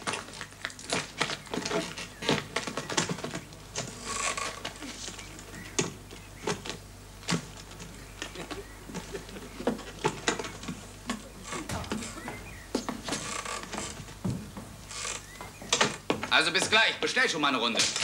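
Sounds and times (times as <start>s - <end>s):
bags knocking against wood: 0.0s - 17.0s.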